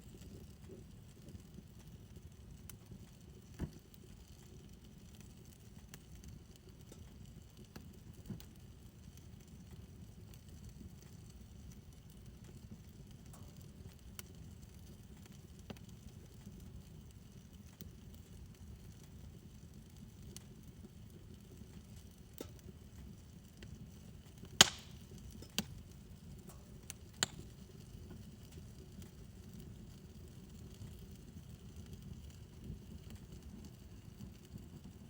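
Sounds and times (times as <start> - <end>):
fire crackles and pops: 0.0 - 35.0
fire rumbling: 0.0 - 35.0.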